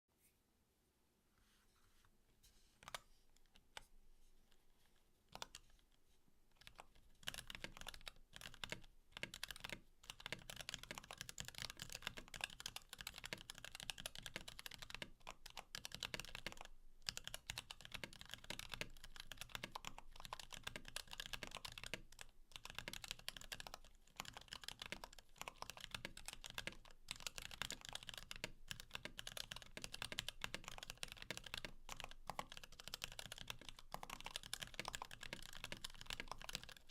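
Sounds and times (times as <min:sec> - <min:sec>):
mechanical keyboard typing: 0:05.3 - 0:05.7, 0:06.6 - 0:36.9.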